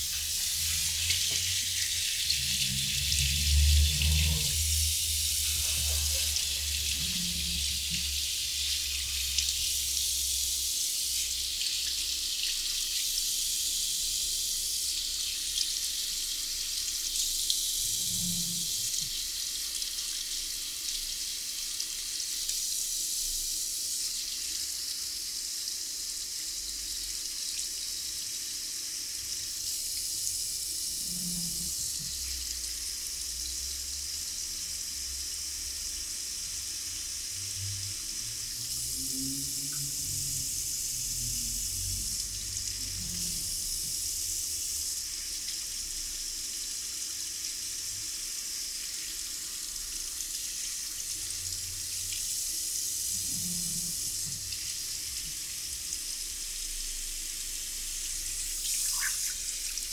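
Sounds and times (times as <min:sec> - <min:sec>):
water running into basin: 0:00.0 - 0:59.9.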